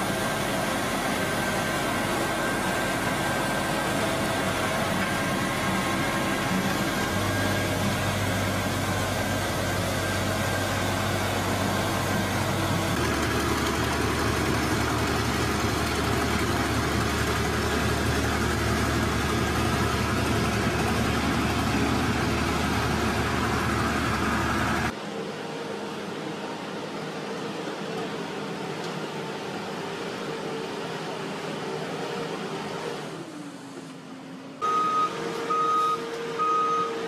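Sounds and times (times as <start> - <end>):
road machine engines droning: 0.0 - 37.0.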